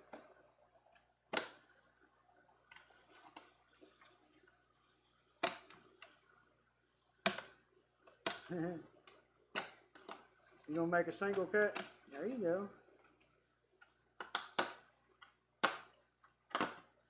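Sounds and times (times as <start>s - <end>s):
sharp plastic clicks: 0.0s - 4.4s, 5.3s - 6.4s, 7.2s - 17.0s.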